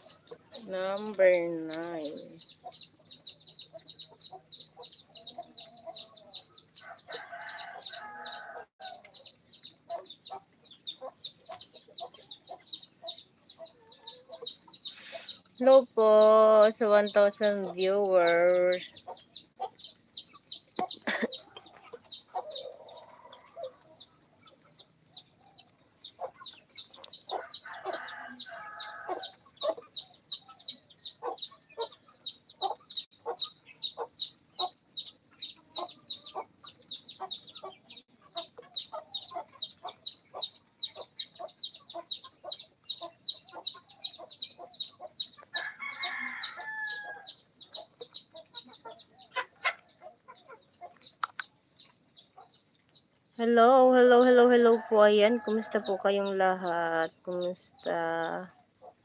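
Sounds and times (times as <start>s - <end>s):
chickens clucking: 0.0s - 59.0s
chicks peeping: 0.0s - 59.0s.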